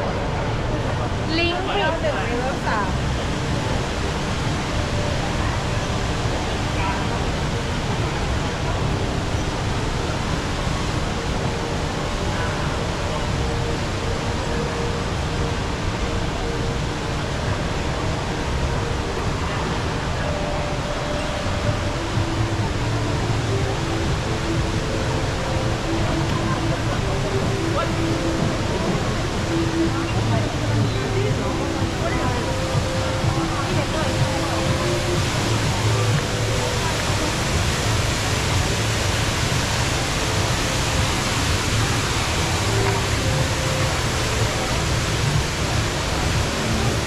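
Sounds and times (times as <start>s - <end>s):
faint murmur of voices: 0.0s - 47.0s
rush of falling water: 0.0s - 47.0s.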